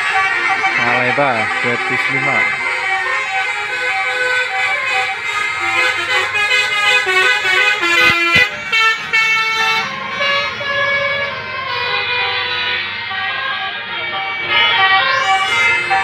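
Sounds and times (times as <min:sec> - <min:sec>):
multi-tone bus air horn tune: 0:00.0 - 0:16.0.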